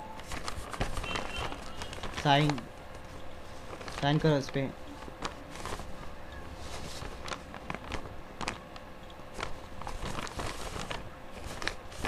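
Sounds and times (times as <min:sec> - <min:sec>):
faint steady hum: 0:00.0 - 0:12.0
papers rustling: 0:00.2 - 0:12.0.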